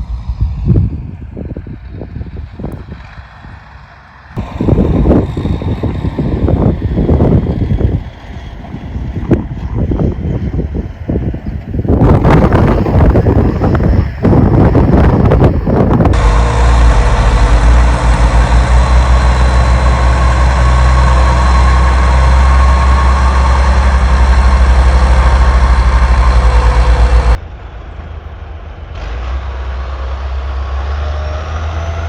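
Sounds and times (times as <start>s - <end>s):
large engine throbbing: 0.0s - 32.0s.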